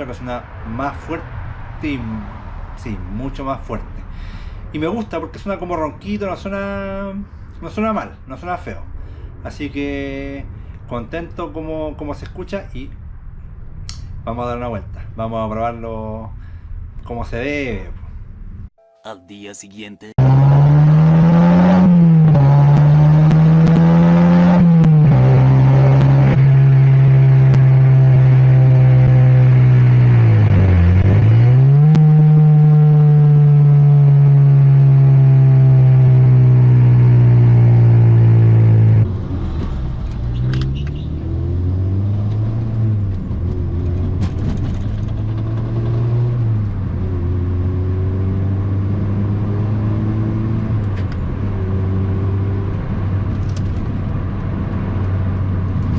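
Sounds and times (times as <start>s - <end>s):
car engine with loud exhaust: 0.0s - 18.7s, 20.2s - 55.9s.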